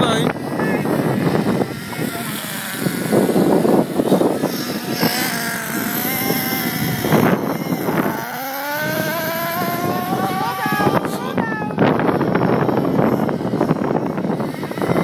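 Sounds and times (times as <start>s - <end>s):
toy car motor whining: 0.0s - 15.0s.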